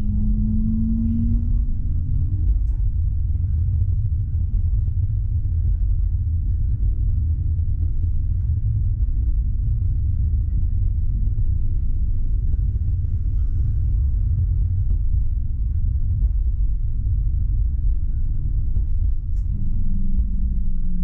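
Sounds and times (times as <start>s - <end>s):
faint motor hum: 0.0s - 21.0s
tram rumbling along track: 0.0s - 21.0s.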